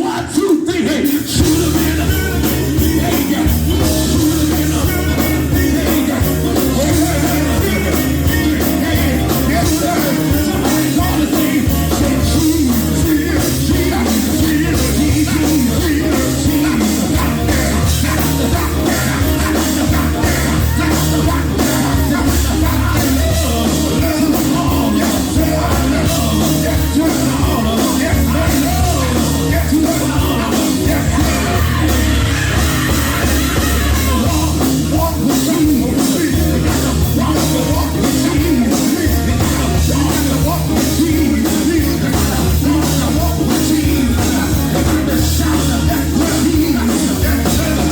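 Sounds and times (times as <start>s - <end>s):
live gospel band playing: 0.0s - 47.9s
people singing: 0.0s - 47.9s.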